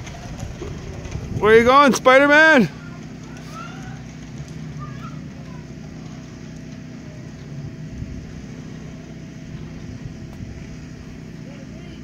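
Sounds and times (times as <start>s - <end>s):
faint outdoor background noise: 0.0s - 12.0s
low mechanical hum: 0.0s - 12.0s.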